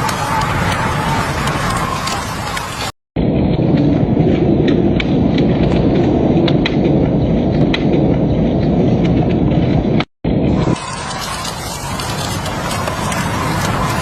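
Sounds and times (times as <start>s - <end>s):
wood fire low rumble: 0.0s - 14.0s.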